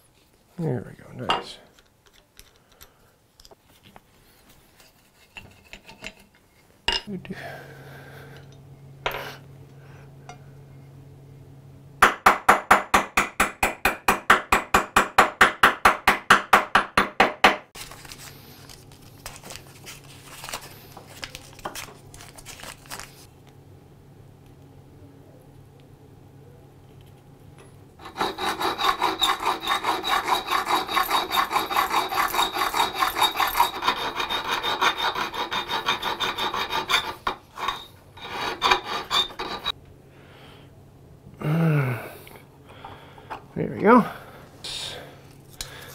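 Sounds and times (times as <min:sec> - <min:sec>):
steady low hum: 0:00.0 - 0:16.0, 0:17.8 - 0:45.9.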